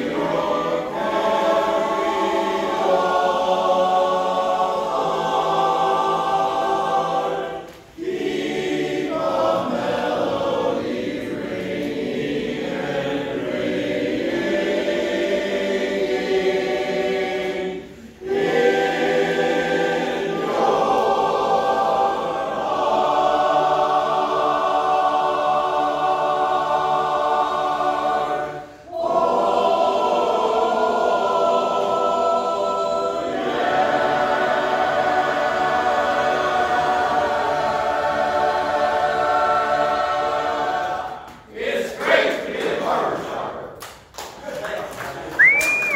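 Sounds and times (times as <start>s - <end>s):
chorus singing a cappella: 0.0s - 43.8s.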